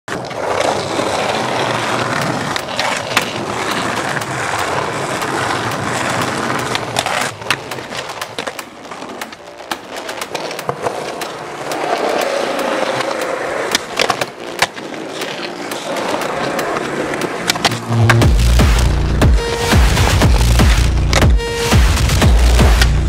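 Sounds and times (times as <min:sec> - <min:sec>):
skateboard clacks: 0:00.1 - 0:22.9
skateboard wheels rolling on concrete: 0:00.1 - 0:23.0.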